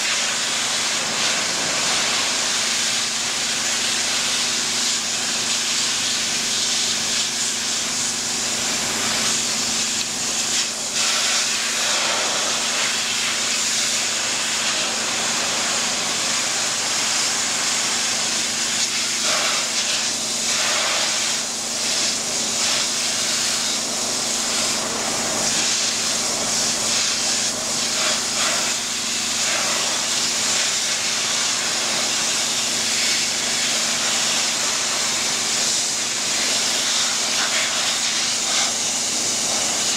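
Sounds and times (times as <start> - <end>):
pressure washer spraying metal grating: 0.0 - 39.9.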